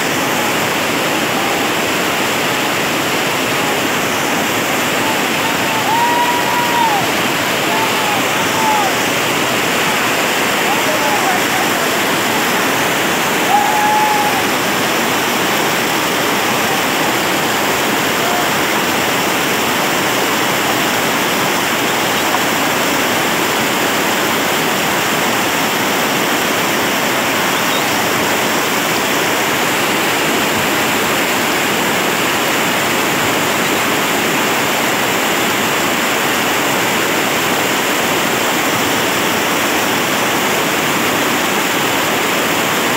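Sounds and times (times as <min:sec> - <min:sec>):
river rapids rushing: 0:00.0 - 0:42.9.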